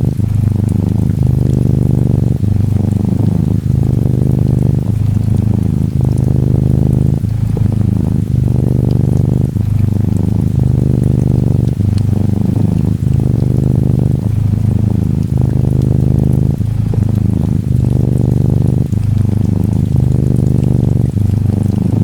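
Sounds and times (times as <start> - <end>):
gentle rain patter: 0.0 - 22.0
kitten purring: 0.0 - 22.0.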